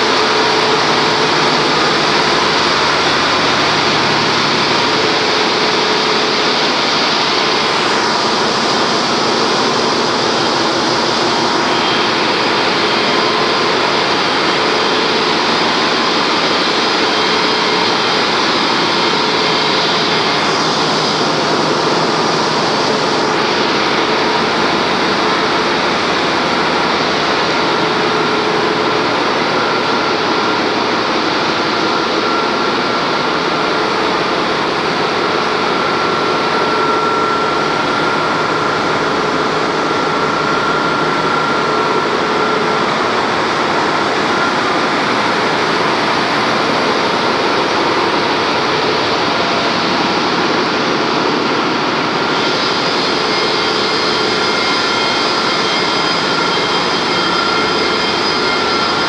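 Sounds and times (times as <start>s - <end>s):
engine room machinery din: 0.0s - 59.0s.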